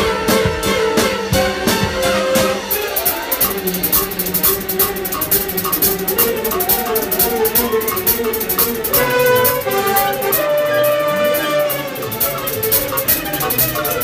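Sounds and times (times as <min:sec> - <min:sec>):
orchestra playing up-tempo jazz: 0:00.0 - 0:14.0.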